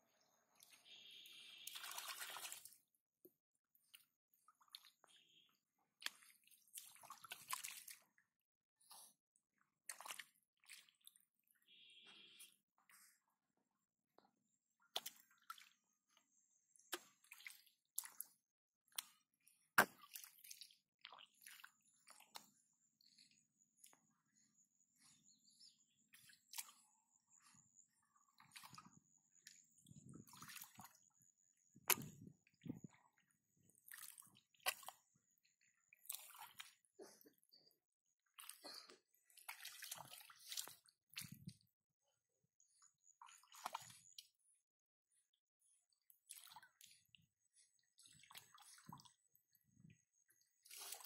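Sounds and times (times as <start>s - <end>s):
wet squelches and splashes in mud: 0.3s - 3.0s, 3.7s - 12.6s, 14.8s - 24.1s, 25.2s - 37.2s, 38.2s - 44.5s, 45.3s - 51.0s.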